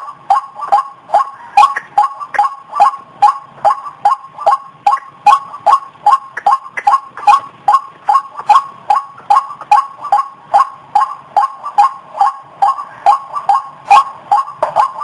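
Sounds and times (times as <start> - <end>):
waterhen repeated call: 0.3 - 15.0.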